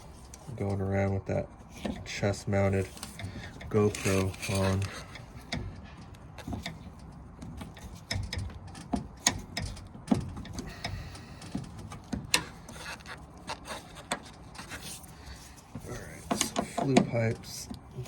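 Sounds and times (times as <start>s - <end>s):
tools clicking and knocking on metal parts: 0.2s - 14.7s, 15.7s - 18.0s.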